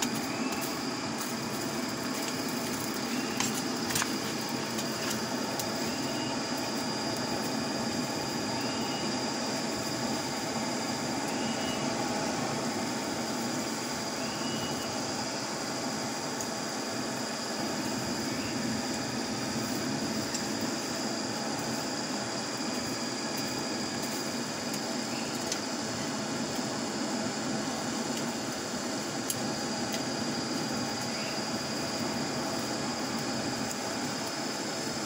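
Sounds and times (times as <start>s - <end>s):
coals ticking: 0.0s - 35.0s
faint high whine: 0.0s - 35.0s
forge fire roaring: 0.0s - 35.0s.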